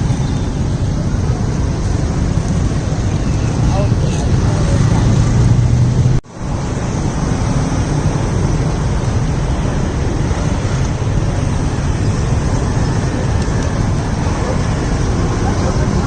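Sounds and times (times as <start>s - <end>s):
outdoor background roar: 0.0s - 16.0s.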